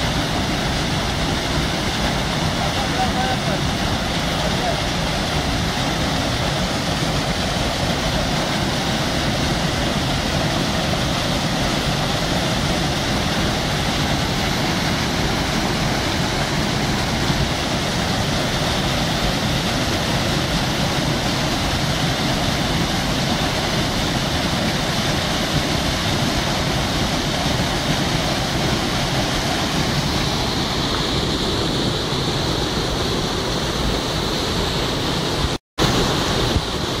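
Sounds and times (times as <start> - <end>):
waterfall rushing over rocks: 0.0 - 37.0.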